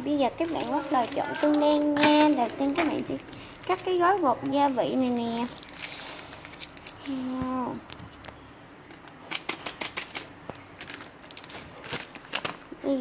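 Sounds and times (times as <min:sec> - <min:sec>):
foil sachet crinkling: 0:00.0 - 0:08.0, 0:09.2 - 0:13.0.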